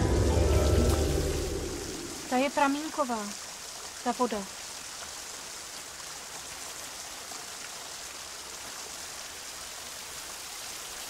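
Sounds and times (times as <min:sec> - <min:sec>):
spring water running: 0:00.0 - 0:11.0.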